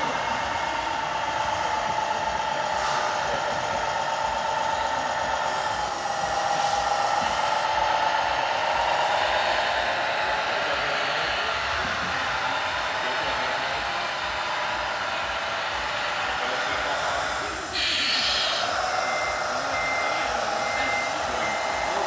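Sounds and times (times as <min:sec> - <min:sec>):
model trucks whining: 0:00.0 - 0:22.0.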